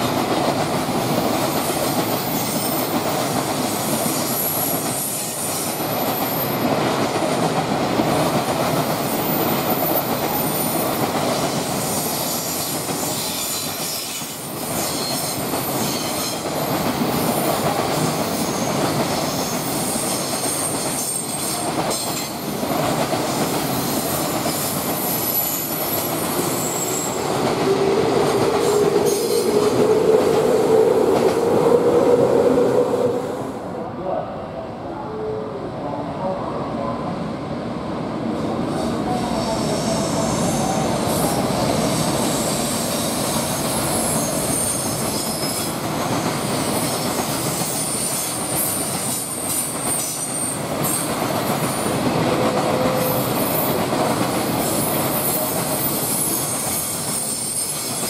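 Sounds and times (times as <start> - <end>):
train wheels rolling on rails: 0.0 - 33.6, 38.2 - 58.0.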